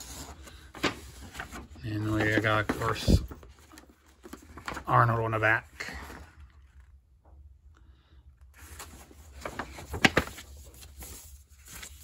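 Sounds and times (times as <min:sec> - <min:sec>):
paper rustling and crinkling: 0:00.0 - 0:07.1, 0:08.5 - 0:12.0.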